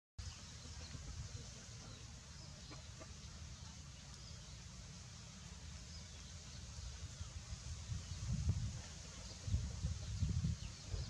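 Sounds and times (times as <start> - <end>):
low background noise: 0.2 - 11.0.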